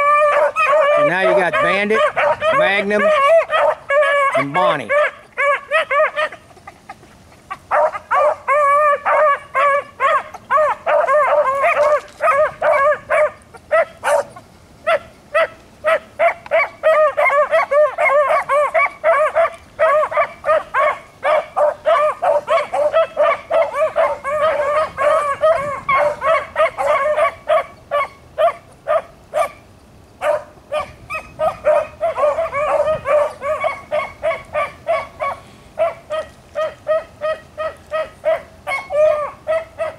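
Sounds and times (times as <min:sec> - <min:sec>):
dogs baying: 0:00.0 - 0:29.6, 0:30.2 - 0:39.9.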